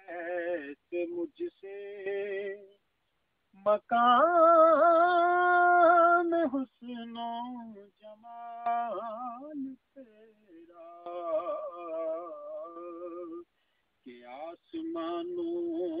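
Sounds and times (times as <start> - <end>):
man singing unaccompanied: 0.0 - 2.8, 3.5 - 16.0.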